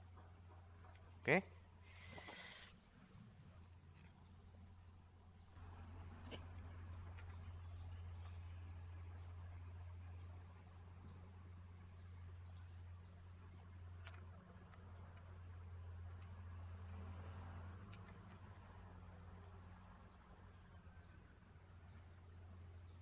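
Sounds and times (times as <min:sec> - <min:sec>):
insect trill: 0:00.0 - 0:23.0
low steady hum: 0:02.8 - 0:23.0.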